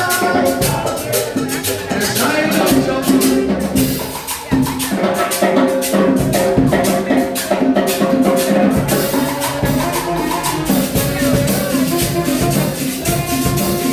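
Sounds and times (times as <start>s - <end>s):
drums: 0.0s - 13.9s
live cumbia band playing: 0.0s - 13.9s
maracas shaking: 0.0s - 13.9s.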